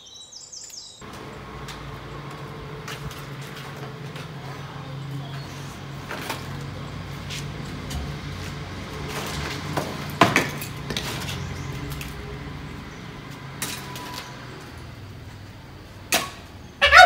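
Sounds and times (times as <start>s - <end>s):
steady low hum: 1.0s - 16.6s.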